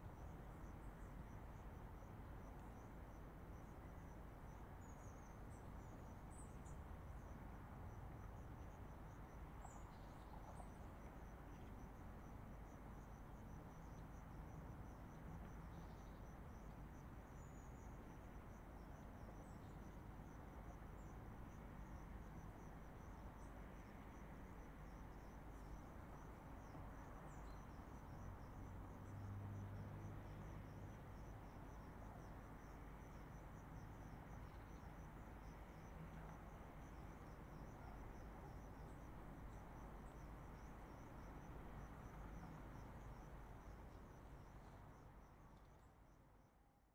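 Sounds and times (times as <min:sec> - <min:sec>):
distant highway traffic rumble: 0:00.0 - 0:45.6
insect chirping: 0:00.0 - 0:46.2.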